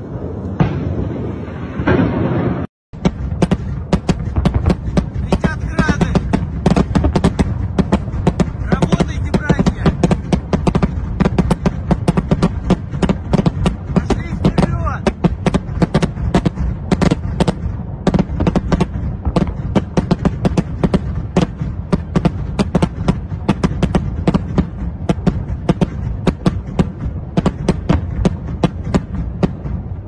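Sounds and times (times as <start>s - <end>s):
low rumble: 0.0s - 30.0s
rapid sharp cracks: 3.0s - 29.7s.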